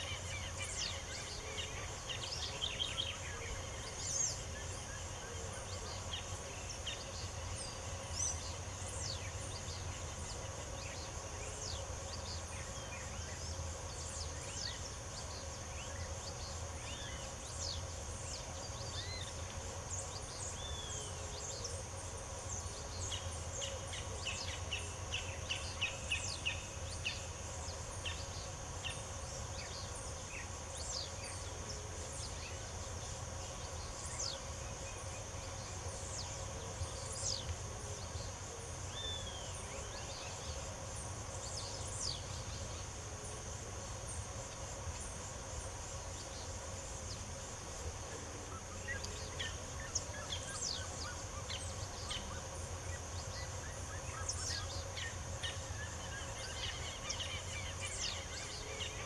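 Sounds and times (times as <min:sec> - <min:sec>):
high insect drone: 0:00.0 - 0:59.0
low steady hum: 0:00.0 - 0:59.0.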